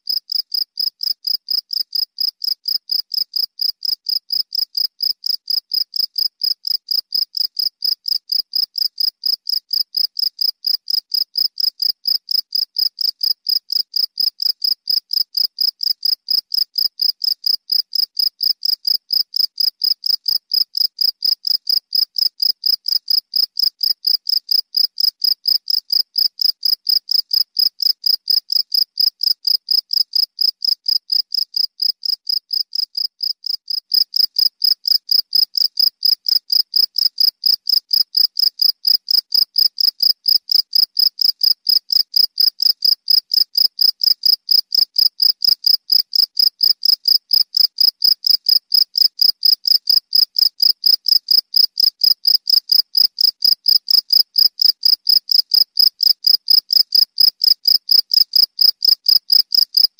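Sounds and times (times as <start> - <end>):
cricket chirping: 0.1 - 59.9.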